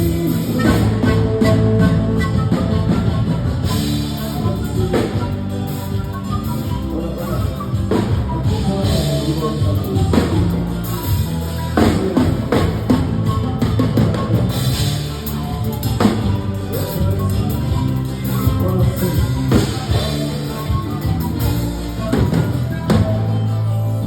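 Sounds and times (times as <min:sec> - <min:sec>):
drum kit steady beat: 0:00.0 - 0:24.0
sustained bass line: 0:00.0 - 0:24.0.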